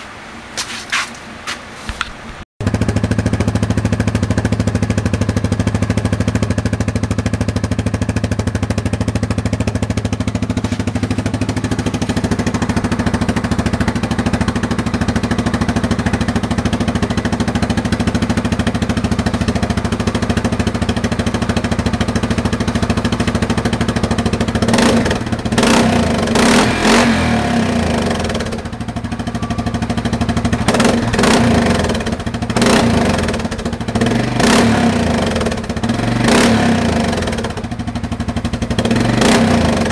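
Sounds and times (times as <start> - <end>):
atv engine idling and revving: 2.6 - 39.9.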